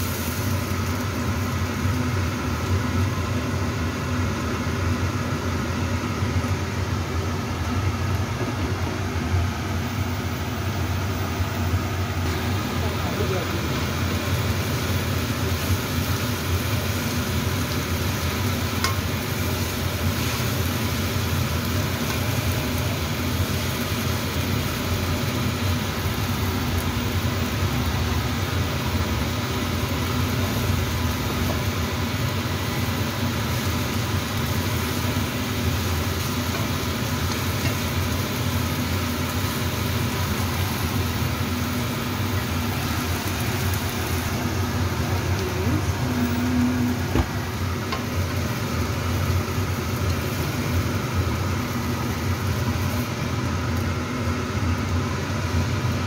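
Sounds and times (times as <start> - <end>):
food frying in oil sizzling: 0.0 - 56.0.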